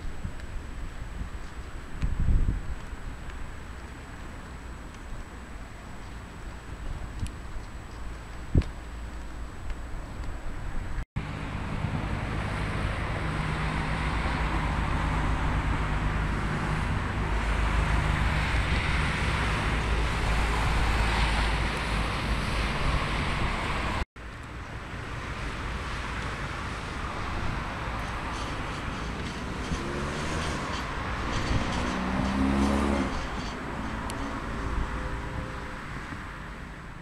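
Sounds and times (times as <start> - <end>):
vehicles passing on road: 0.0 - 37.0.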